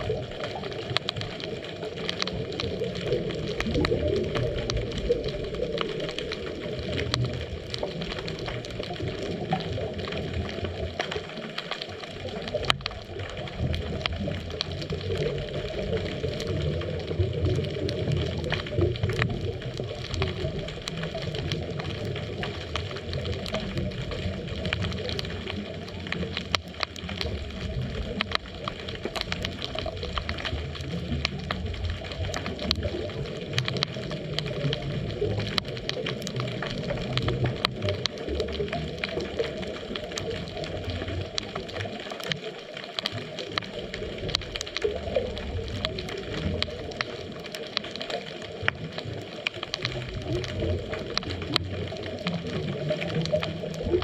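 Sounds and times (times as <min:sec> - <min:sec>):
churning rumble of water: 0:00.0 - 0:54.0
sharp clicks underwater: 0:00.0 - 0:54.0.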